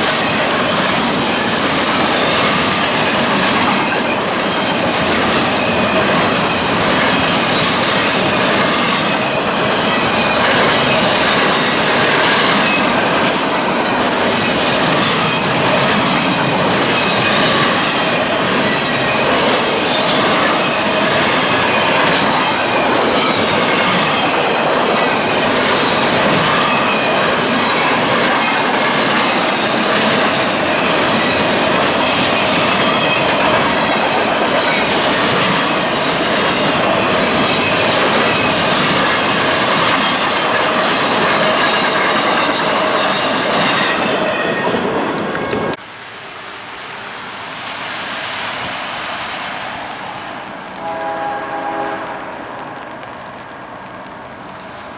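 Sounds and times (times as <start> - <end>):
train wheel squeal: 0.0 - 45.8
freight train rumbling past: 0.0 - 54.9.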